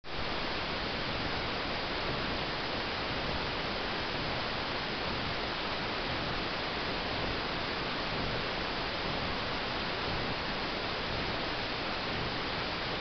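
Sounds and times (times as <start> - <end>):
steady hiss: 0.1 - 13.0.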